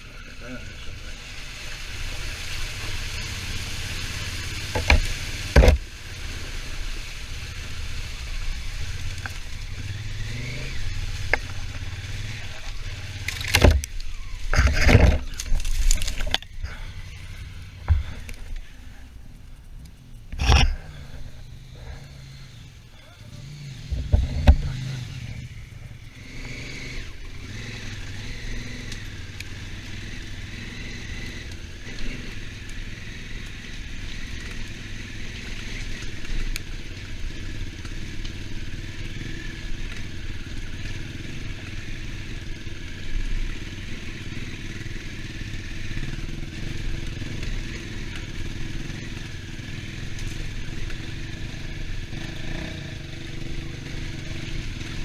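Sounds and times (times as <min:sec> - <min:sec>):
steady hiss: 0:00.0 - 0:13.3, 0:13.9 - 0:55.0
motorcycle engine running: 0:00.0 - 0:55.0.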